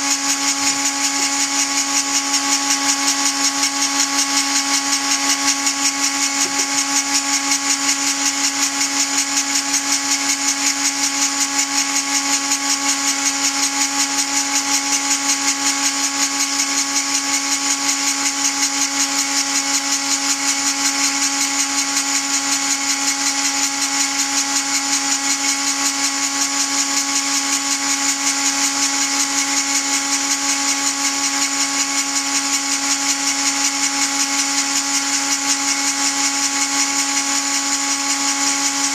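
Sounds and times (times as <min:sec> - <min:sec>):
rotary grinder high whine: 0:00.0 - 0:38.9.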